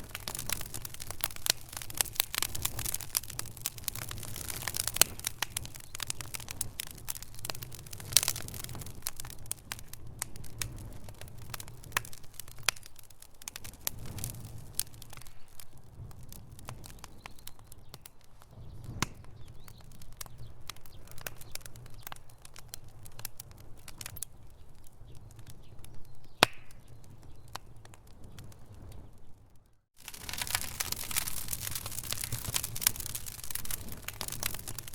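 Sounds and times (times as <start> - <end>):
fire pops and snaps: 0.0 - 34.9
low rumble of flames: 0.0 - 34.9
wood fire crackling: 0.0 - 34.9.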